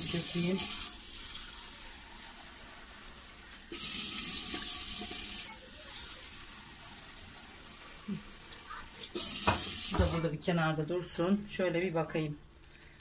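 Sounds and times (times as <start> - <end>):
water running: 0.0 - 11.3.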